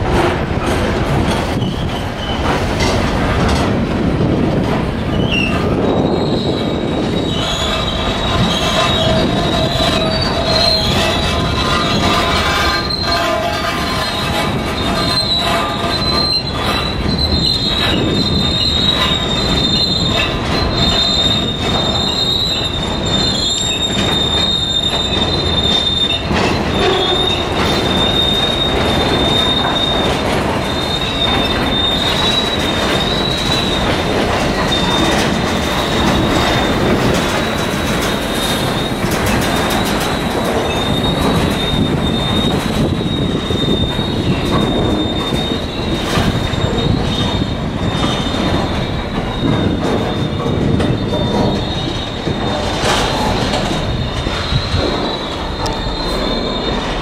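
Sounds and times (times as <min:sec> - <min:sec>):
wheels rumbling on track: 0:00.0 - 0:57.0
train wheels squealing: 0:01.3 - 0:03.0, 0:05.1 - 0:57.0.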